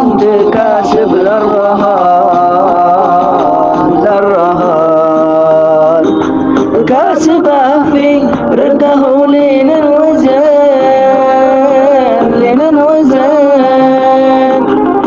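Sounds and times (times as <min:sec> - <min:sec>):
person singing melismatic melody: 0:00.0 - 0:15.0.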